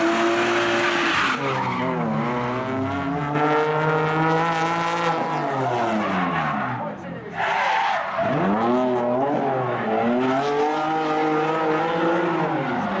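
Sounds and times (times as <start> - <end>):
car engine revving: 0.0 - 7.0, 8.1 - 13.0.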